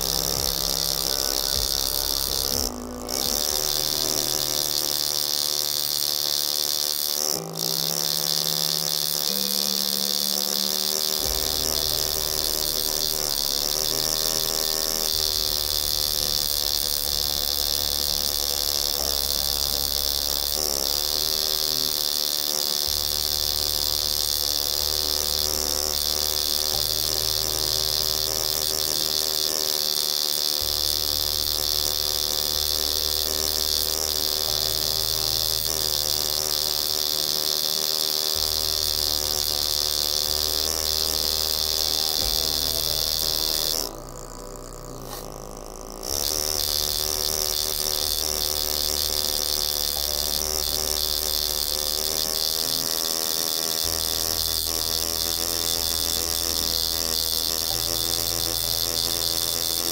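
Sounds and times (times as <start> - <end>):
pneumatic graver buzzing on steel: 0.0 - 59.9.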